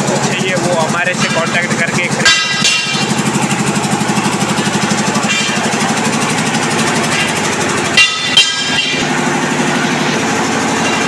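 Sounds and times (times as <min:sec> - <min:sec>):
engine puttering: 0:00.0 - 0:11.0.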